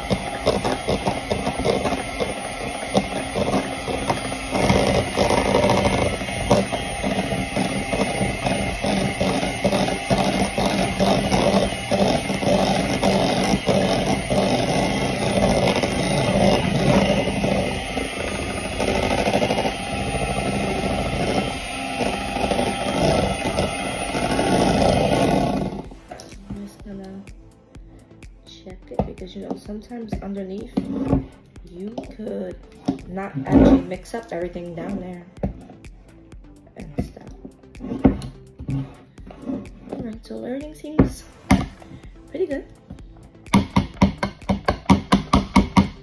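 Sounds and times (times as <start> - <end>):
electric hand mixer whirring: 0.0 - 46.0.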